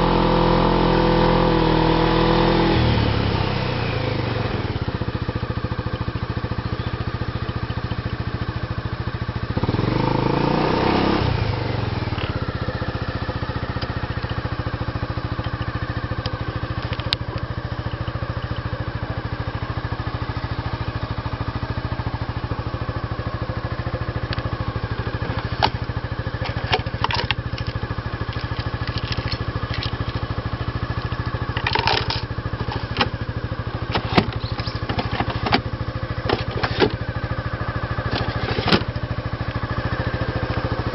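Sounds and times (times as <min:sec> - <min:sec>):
scooter engine idling and blipping: 0:00.0 - 0:40.9.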